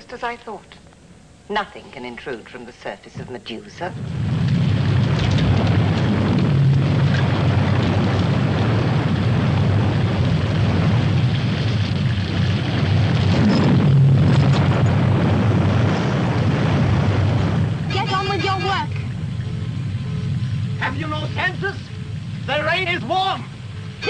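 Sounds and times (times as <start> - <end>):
deep rumble: 3.2 - 24.0
rain and wind: 3.9 - 24.0.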